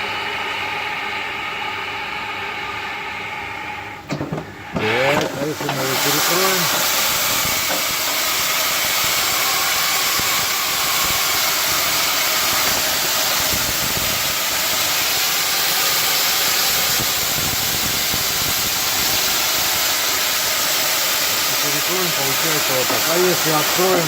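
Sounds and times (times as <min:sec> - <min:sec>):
steam hissing from stove: 0:04.3 - 0:24.0.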